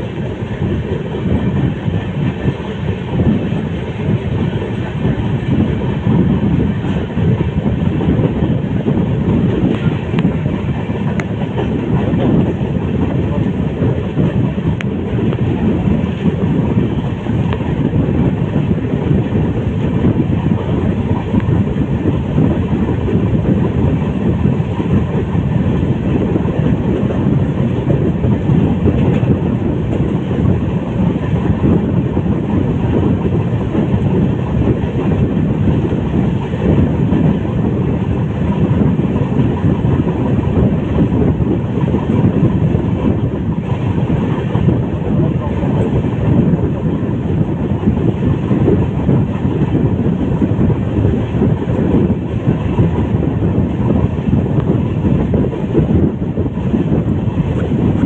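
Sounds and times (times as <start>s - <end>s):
rushing air: 0.0s - 58.0s
train wheels rumbling on rails: 0.0s - 58.0s.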